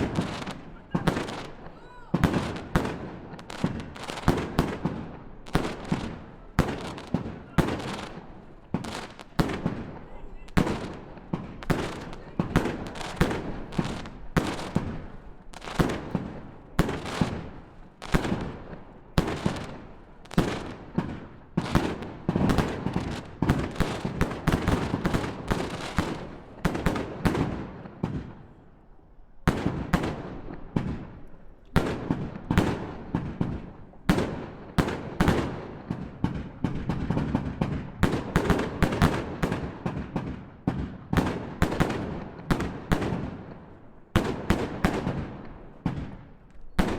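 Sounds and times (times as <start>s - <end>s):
fireworks bangs with echo: 0.0s - 28.6s, 29.4s - 46.9s.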